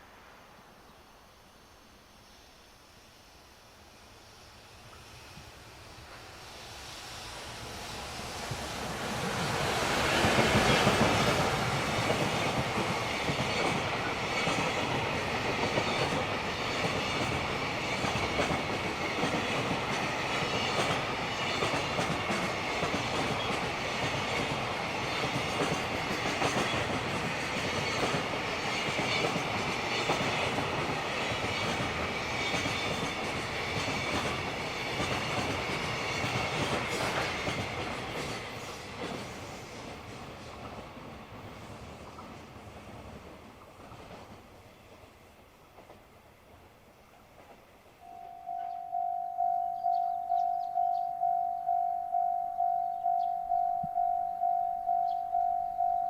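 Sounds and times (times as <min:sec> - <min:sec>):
freight train passing: 0:00.0 - 0:00.8, 0:03.6 - 0:56.0.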